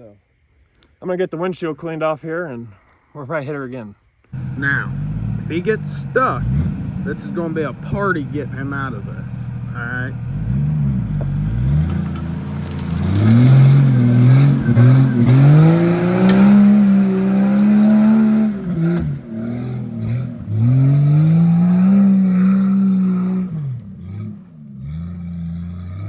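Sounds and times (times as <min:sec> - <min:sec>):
engine revving hard: 0:04.4 - 0:26.0.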